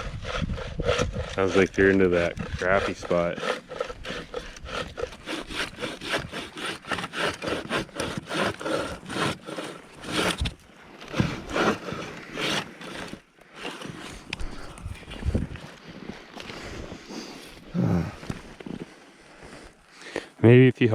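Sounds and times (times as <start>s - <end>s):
hand saw cutting wood: 0.0s - 17.6s.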